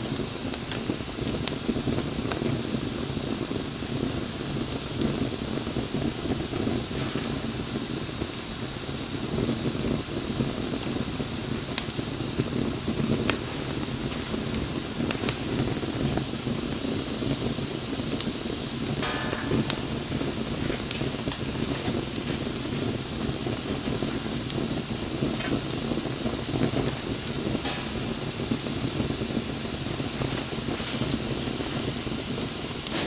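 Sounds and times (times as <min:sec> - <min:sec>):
bonfire flames rushing: 0:00.0 - 0:33.0
burning wood crackling: 0:00.0 - 0:33.0.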